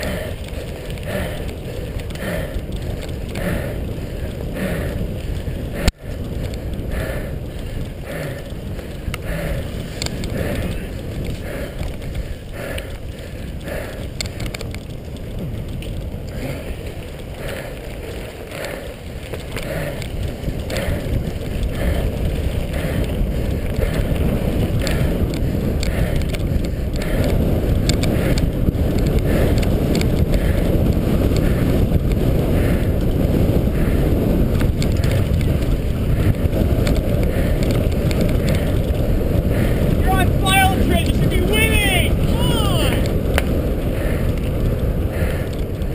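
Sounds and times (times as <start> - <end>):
bike clicks and rattles: 0.0 - 40.4, 43.0 - 45.9
tyres rumbling on rough ground: 0.0 - 45.9
wind on microphone: 0.0 - 45.9.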